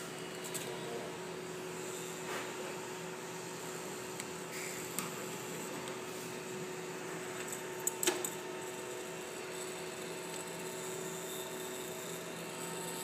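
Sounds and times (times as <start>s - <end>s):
three d printer fans humming: 0.0s - 13.0s.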